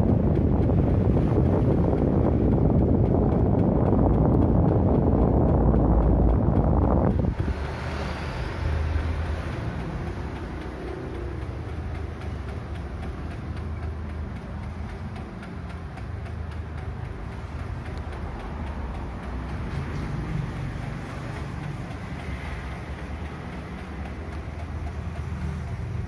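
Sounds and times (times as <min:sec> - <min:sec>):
air rushing from fan blades: 0:00.0 - 0:26.0
fan motor hum: 0:00.0 - 0:26.0
light regular ticking: 0:00.0 - 0:26.0.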